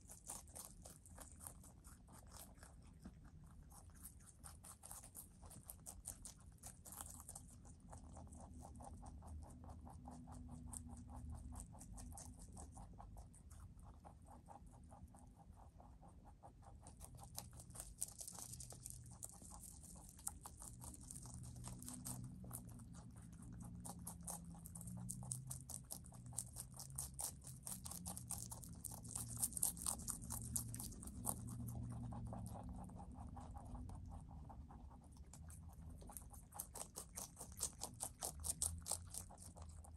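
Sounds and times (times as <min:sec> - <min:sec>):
rabbits chewing greens: 0:00.0 - 0:39.9.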